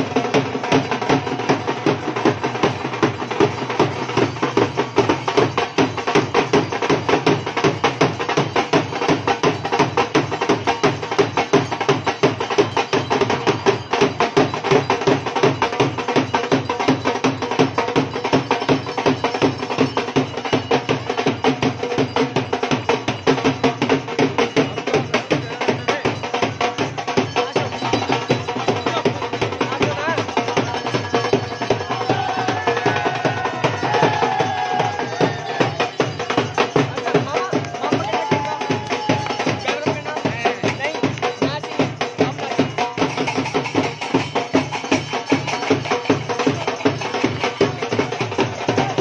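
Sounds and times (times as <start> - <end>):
drums in fast dance rhythm: 0.0 - 49.0.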